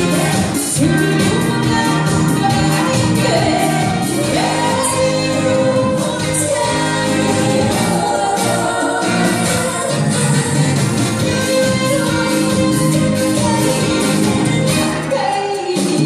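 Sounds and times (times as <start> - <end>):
woman singing into microphone: 0.0 - 16.0.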